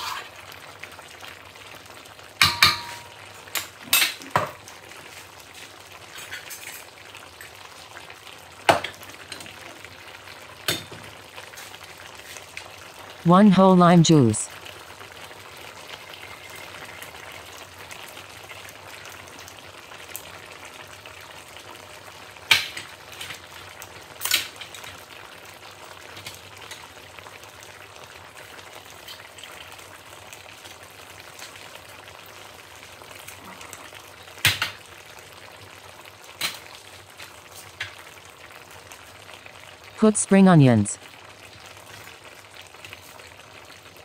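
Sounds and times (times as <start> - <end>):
sauce bubbling and sizzling: 0.0 - 44.0.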